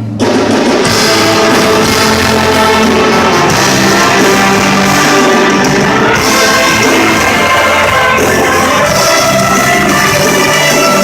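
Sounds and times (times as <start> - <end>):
orchestra playing: 0.1 - 11.0.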